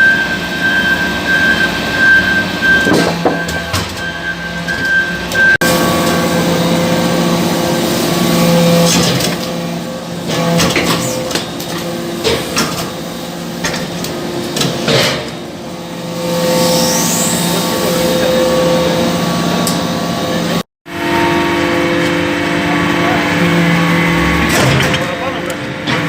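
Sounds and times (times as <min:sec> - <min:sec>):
hydraulic unit hum: 0:00.0 - 0:26.0
machine whine: 0:00.0 - 0:26.0.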